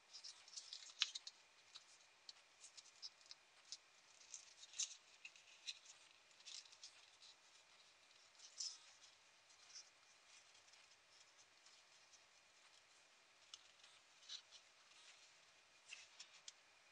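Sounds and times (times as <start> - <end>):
paper rustling and crinkling: 0.1 - 16.9.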